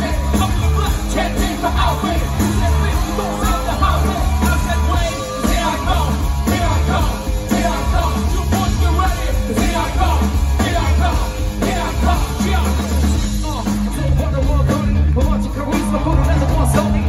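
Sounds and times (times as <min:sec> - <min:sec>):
live rock-funk band playing: 0:00.0 - 0:17.0.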